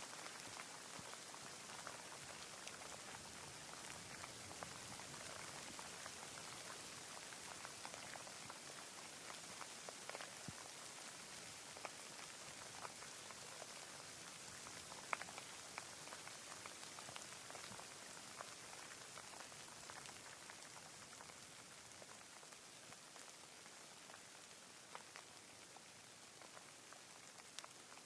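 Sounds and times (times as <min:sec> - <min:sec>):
light rain hissing: 0:00.0 - 0:28.0
raindrops ticking: 0:00.0 - 0:28.0.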